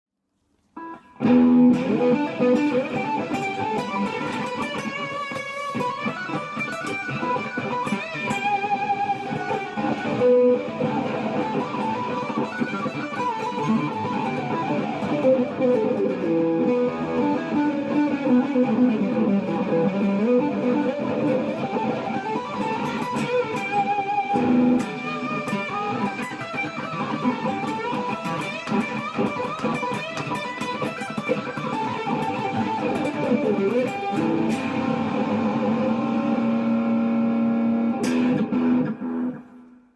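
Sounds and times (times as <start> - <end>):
fuzz electric guitar lead: 0.8 - 39.9.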